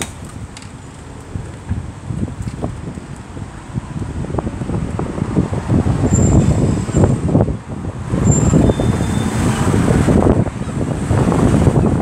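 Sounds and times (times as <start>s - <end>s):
road traffic noise: 0.0s - 12.0s
wind buffeting microphone: 0.0s - 12.0s.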